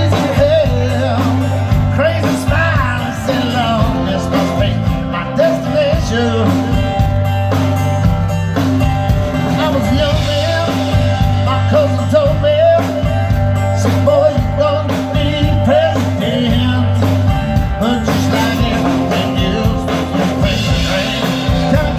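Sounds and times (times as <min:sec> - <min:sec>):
lead guitar bending notes: 0:00.0 - 0:21.9
rock band instrumental: 0:00.0 - 0:21.9.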